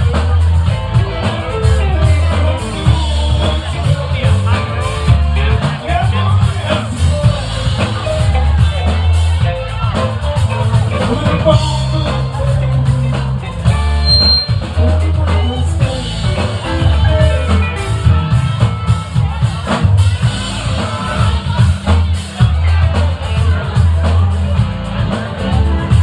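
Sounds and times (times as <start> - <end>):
bass guitar notes: 0.0 - 26.0
drum kit beat: 0.0 - 26.0
electric guitar: 0.0 - 26.0.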